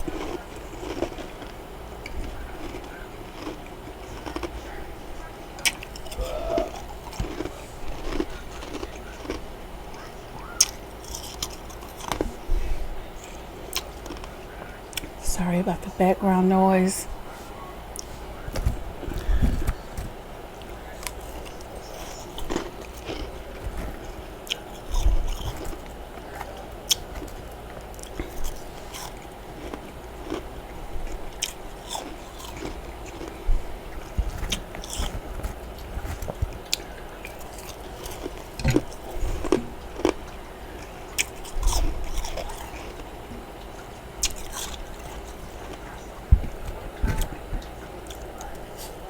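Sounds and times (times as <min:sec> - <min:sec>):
steady background noise: 0:00.0 - 0:49.0.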